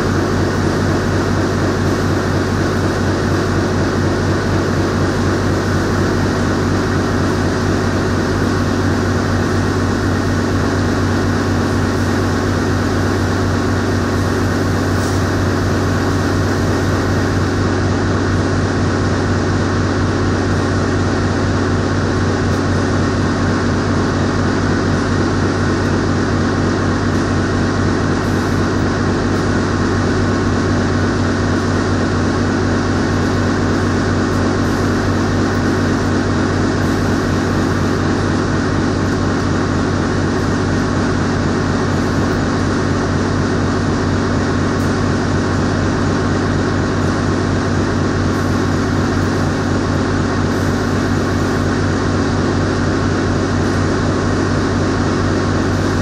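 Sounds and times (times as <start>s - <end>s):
machinery drone: 0.0s - 56.0s.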